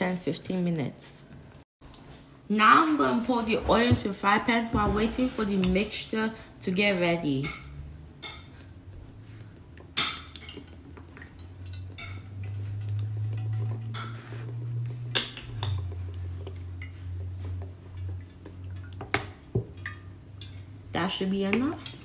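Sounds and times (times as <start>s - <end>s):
low steady hum: 2.3s - 22.0s.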